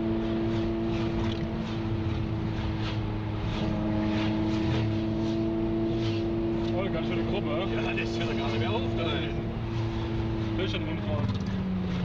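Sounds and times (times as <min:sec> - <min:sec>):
car engine droning at cruise: 0:00.0 - 0:12.0
road noise: 0:00.0 - 0:12.0.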